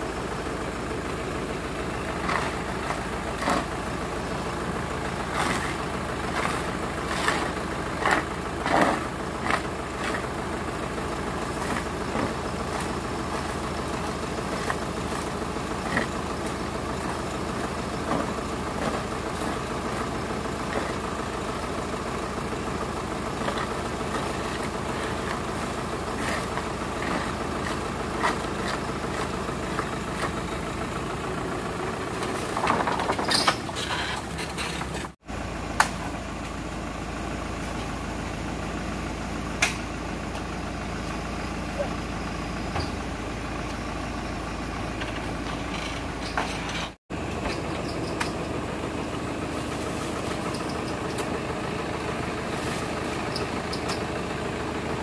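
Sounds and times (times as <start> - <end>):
lorry engine idling: 0.0 - 55.0.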